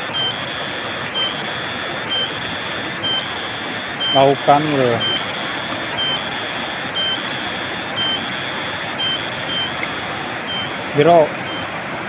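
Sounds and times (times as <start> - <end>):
high pulsing buzz: 0.0 - 11.7
river rushing: 0.0 - 12.0.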